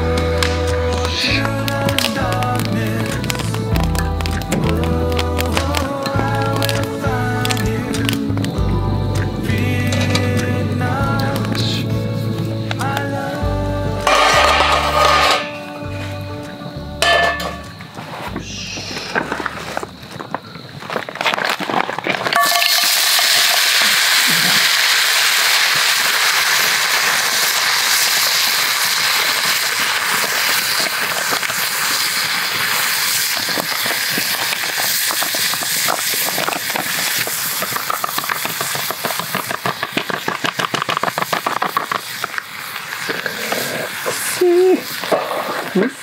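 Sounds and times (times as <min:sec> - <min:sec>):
mussels sizzling in frying pan: 0:00.0 - 0:17.8, 0:22.3 - 0:46.0.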